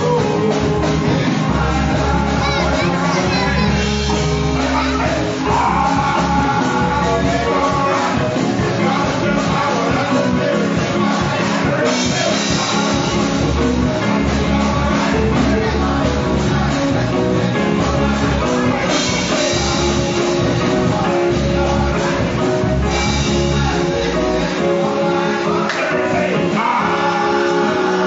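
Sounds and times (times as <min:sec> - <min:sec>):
choir singing gospel: 0:00.0 - 0:28.0
instrumental accompaniment with bass: 0:00.0 - 0:28.0.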